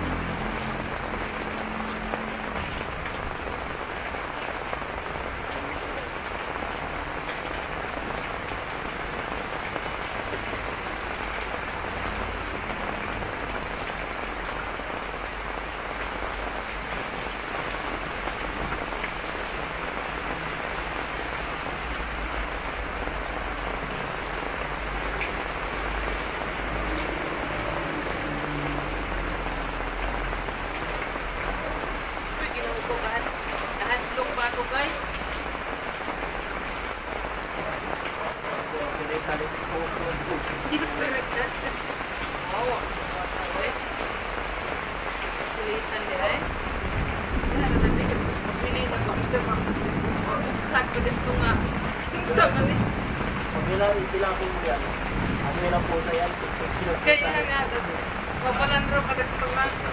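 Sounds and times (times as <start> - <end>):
heavy rain splashing on floor: 0.0 - 59.9.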